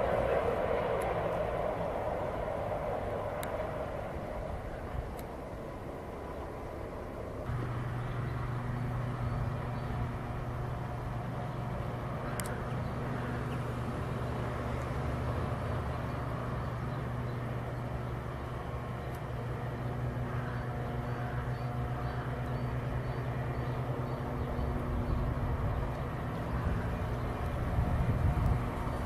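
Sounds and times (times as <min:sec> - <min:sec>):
electric locomotive hum: 0:00.0 - 0:29.0
train rolling noise: 0:00.0 - 0:29.0.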